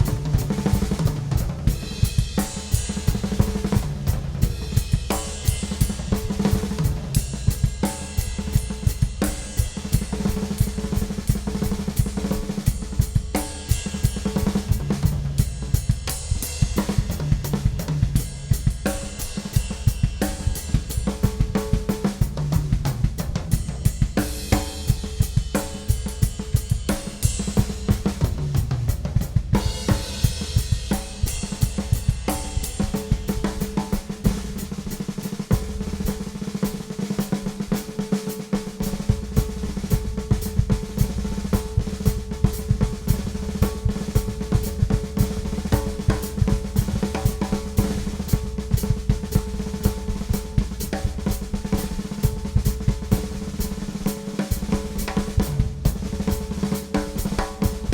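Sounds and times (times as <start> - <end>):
bass drum: 0.0 - 37.7, 38.8 - 57.9
rapid snare and tom strokes: 0.0 - 57.9.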